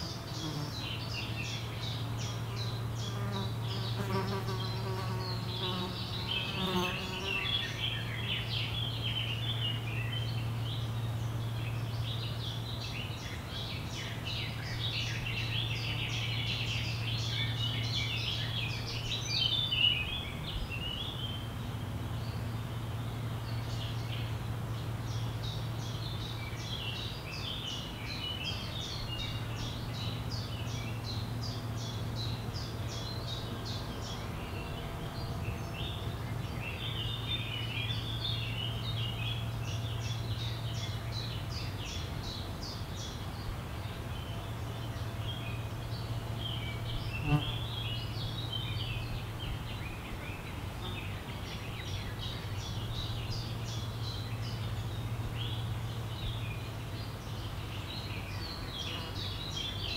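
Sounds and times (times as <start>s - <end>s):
songbirds chirping and trilling: 0.0s - 59.9s
steady low hum: 0.0s - 59.9s.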